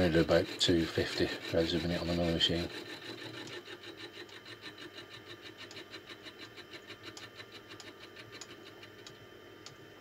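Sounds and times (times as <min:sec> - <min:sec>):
rhythmic ticking of cutter: 0:00.0 - 0:09.9
milling machine motor humming: 0:00.0 - 0:10.0.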